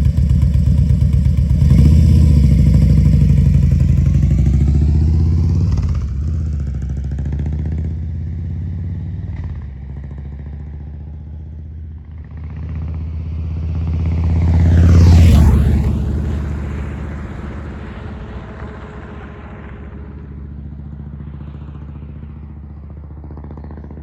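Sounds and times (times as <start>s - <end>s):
motorcycle exhaust: 0.0s - 24.0s.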